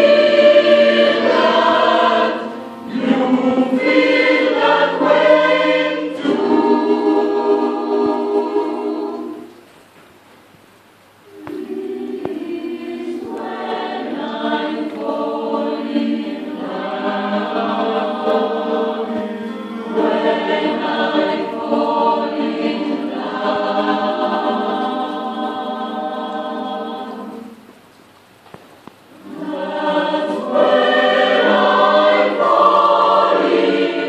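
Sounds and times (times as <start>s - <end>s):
mixed choir singing: 0.0s - 9.6s, 11.3s - 27.7s, 29.1s - 34.0s.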